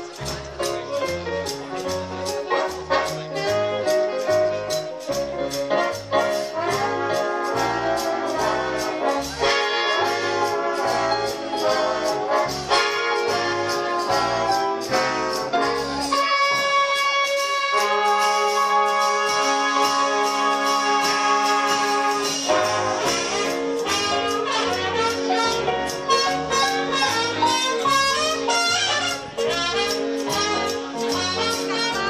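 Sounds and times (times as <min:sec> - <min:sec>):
swing jazz band: 0:00.0 - 0:32.0.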